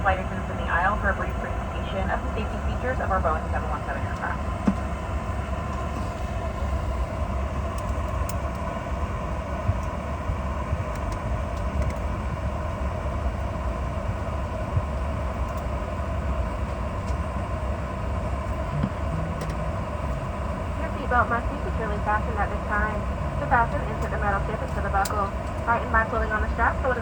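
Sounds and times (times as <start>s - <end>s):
airplane cabin drone: 0.0s - 27.0s.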